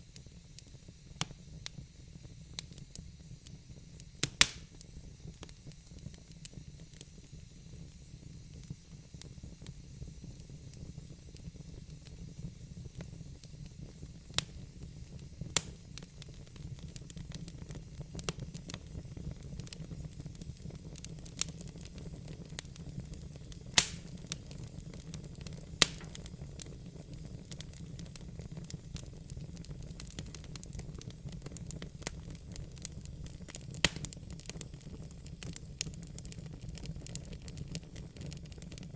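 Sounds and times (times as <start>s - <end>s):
fire rumbling and hissing: 0.0s - 38.9s
burning logs popping and crackling: 0.1s - 38.9s.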